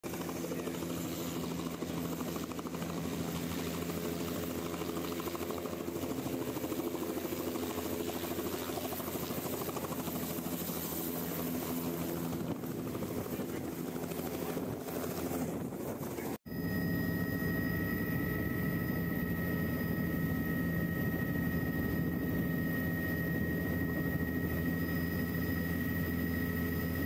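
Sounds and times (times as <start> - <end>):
helicopter hovering: 0.0 - 27.0.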